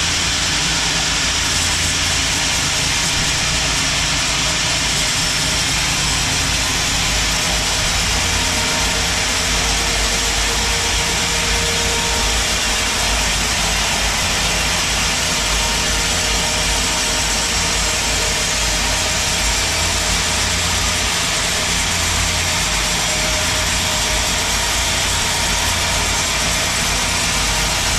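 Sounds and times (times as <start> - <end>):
band sawmill droning: 0.0 - 27.9.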